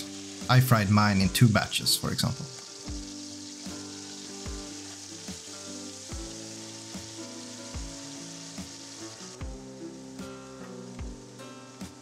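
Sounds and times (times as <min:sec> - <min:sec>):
background music with low beat: 0:00.0 - 0:12.0
meat sizzling in oil: 0:00.0 - 0:12.0.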